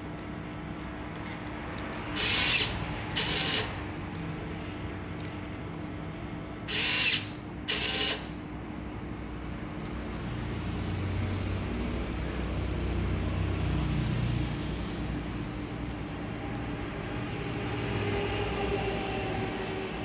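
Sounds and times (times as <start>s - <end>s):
wire-cutting machine running: 0.0s - 20.0s.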